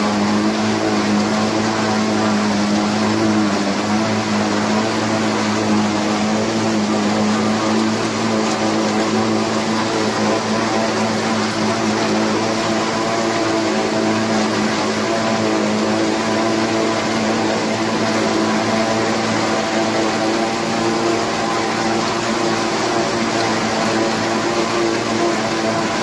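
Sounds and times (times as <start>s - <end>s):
forage harvester rushing noise: 0.0s - 26.0s
tractor engine hum: 0.0s - 26.0s.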